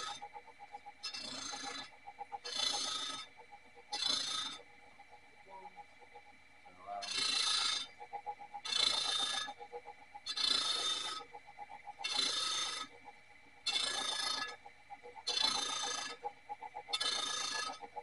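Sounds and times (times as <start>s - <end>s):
faint rapid ticking: 0.0s - 18.0s.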